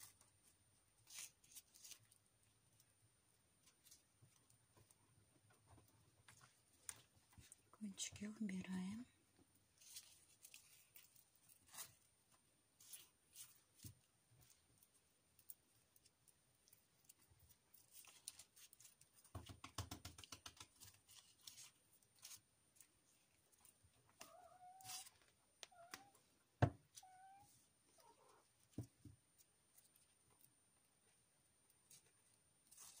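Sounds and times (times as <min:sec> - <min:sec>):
rustling of floral tape: 0:00.0 - 0:08.0, 0:09.4 - 0:25.7, 0:26.8 - 0:33.0.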